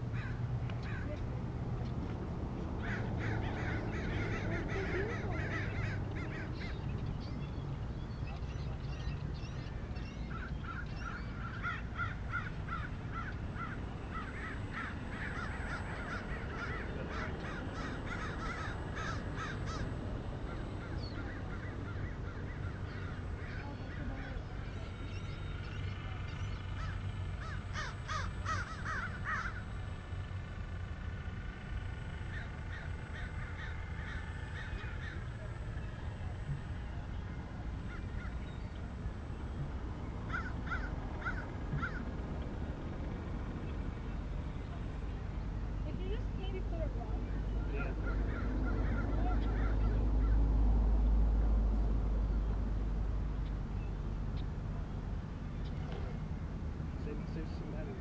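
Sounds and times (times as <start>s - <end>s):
gulls calling: 0.0s - 58.0s
steady low rumble: 0.0s - 58.0s.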